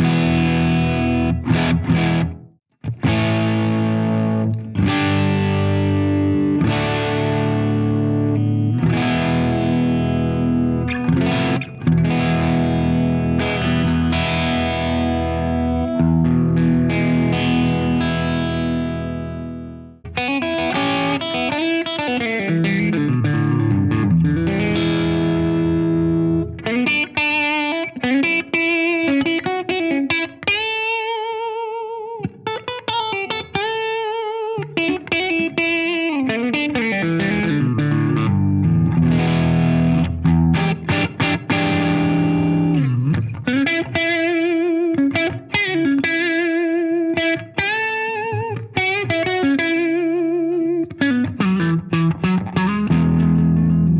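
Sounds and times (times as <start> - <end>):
electric guitar through amp: 0.0 - 53.9.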